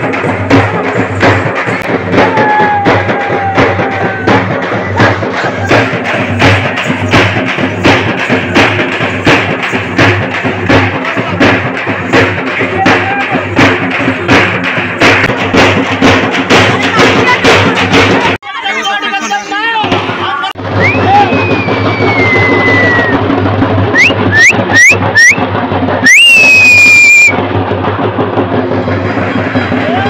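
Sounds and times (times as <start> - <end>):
festival music with drums: 0.0 - 30.0.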